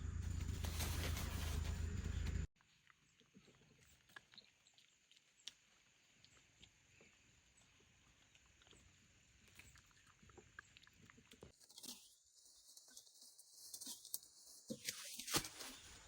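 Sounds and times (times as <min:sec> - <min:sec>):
small rodents nibbling and rustling: 0:00.3 - 0:16.0.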